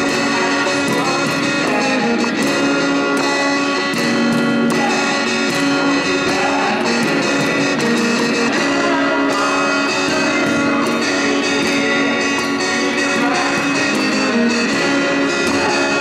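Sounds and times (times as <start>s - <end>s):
steady percussive beat: 0.0s - 16.0s
strummed acoustic guitar: 0.0s - 16.0s.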